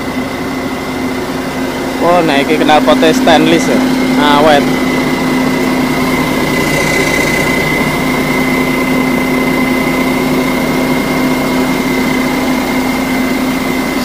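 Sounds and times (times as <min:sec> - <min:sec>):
diesel engine idling: 0:00.0 - 0:14.0
high whine: 0:00.0 - 0:14.0.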